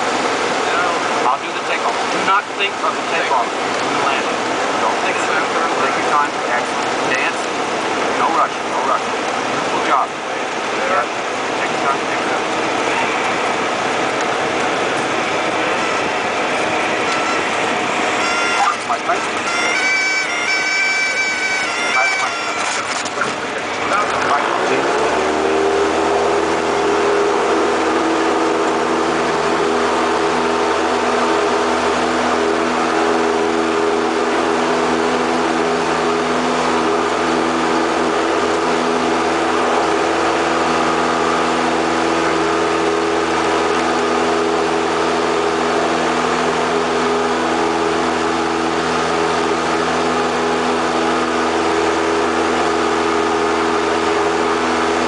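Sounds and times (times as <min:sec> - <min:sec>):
airplane piston engine and propeller: 0:00.0 - 0:55.0.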